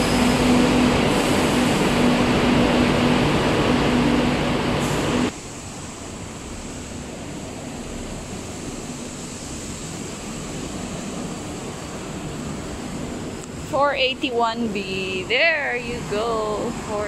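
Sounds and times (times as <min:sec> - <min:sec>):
loud mechanical hum: 0:00.0 - 0:17.0.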